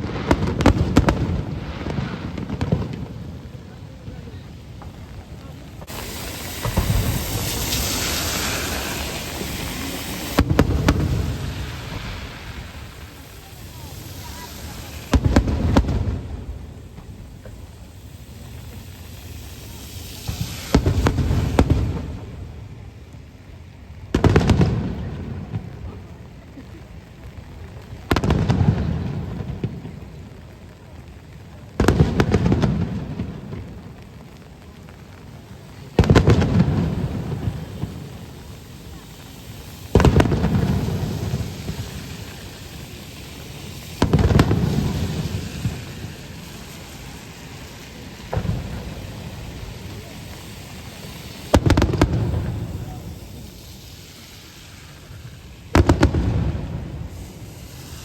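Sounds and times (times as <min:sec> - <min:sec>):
fireworks booming with echo: 0:00.0 - 0:58.0
rain hissing: 0:00.0 - 0:58.0.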